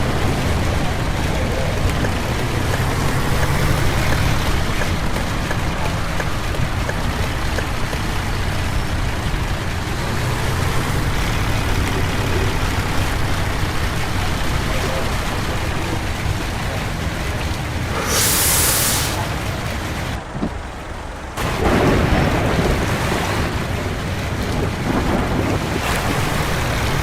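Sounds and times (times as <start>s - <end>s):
bus engine running: 0.0s - 27.0s
rain and tyre spray hiss: 0.0s - 27.0s.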